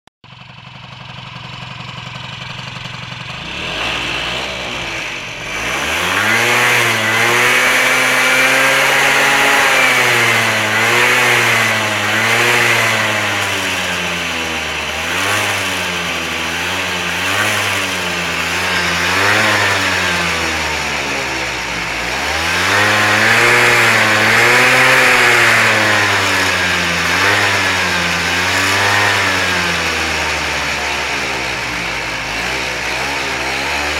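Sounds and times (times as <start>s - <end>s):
scooter engine revving: 0.3s - 33.9s.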